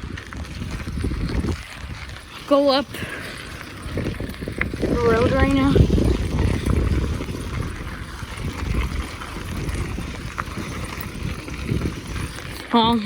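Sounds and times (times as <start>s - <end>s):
bicycle tyres rolling on road: 0.0s - 13.0s
wind buffeting microphone: 0.0s - 13.0s
small rattles: 0.3s - 13.0s.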